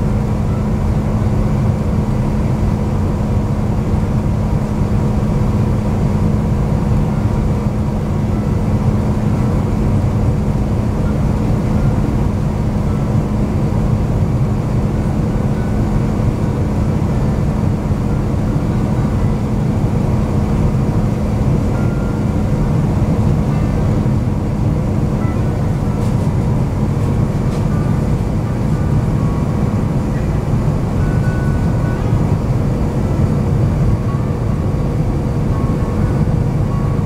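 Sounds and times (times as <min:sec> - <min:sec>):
airliner cabin rumble and hum: 0:00.0 - 0:37.0.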